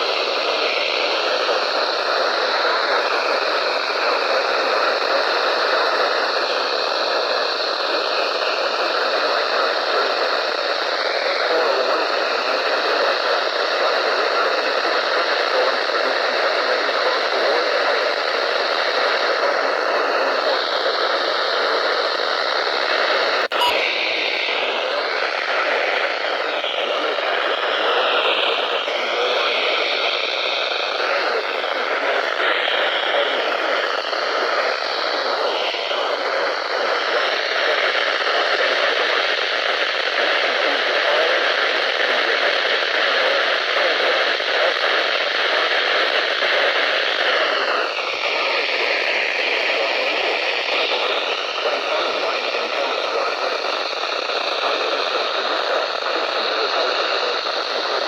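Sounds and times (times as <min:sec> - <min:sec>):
faint voice: 0:00.0 - 0:58.0
radio static hiss: 0:00.0 - 0:58.0.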